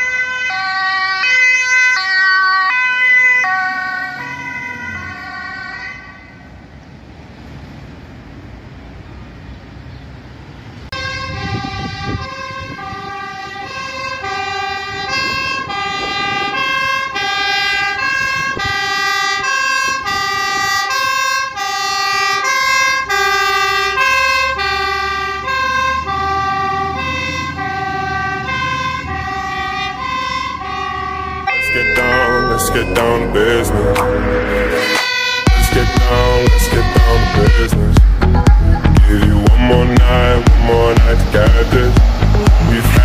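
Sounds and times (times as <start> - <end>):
fire engine two-tone siren: 0.0 - 6.7, 10.9 - 43.0
truck engine rumble: 2.4 - 43.0.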